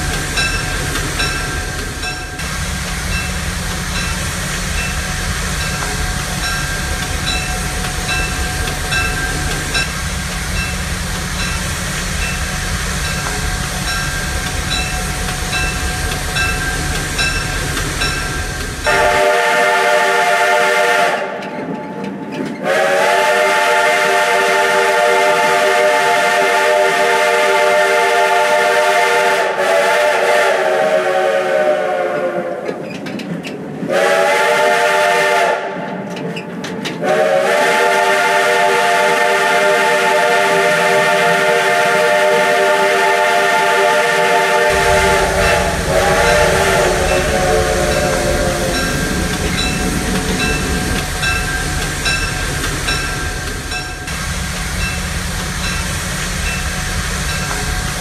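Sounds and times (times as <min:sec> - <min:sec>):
steam locomotive chime whistle: 0:00.0 - 0:21.7, 0:22.6 - 0:32.7, 0:33.9 - 0:35.9, 0:36.8 - 0:58.0
low rumble of running train: 0:00.0 - 0:58.0.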